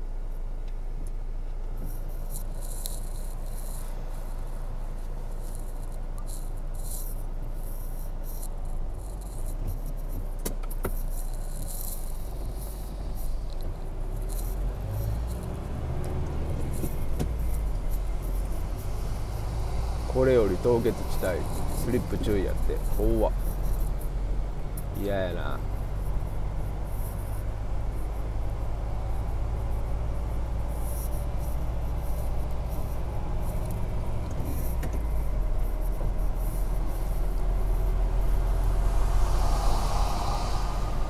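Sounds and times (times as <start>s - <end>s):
car engine humming: 0.0s - 41.0s
light ticking and rattling: 1.0s - 38.8s.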